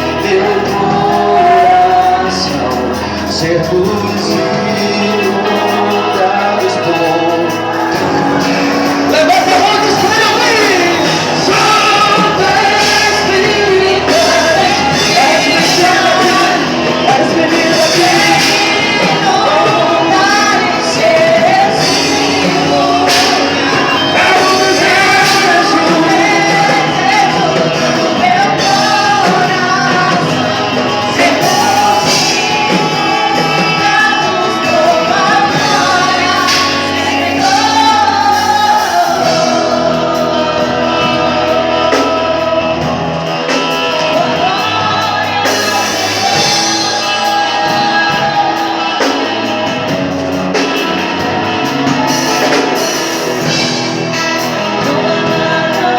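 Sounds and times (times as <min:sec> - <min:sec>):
band chords and bass: 0:00.0 - 0:55.9.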